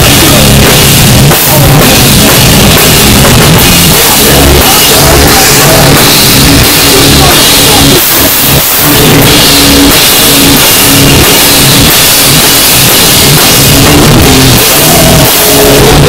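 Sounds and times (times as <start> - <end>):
distorted electric guitars: 0.0 - 16.0
pounding drums and cymbals: 0.0 - 16.0.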